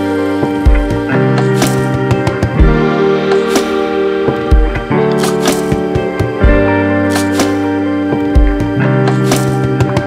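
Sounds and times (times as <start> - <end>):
background music with held chords: 0.0 - 10.0.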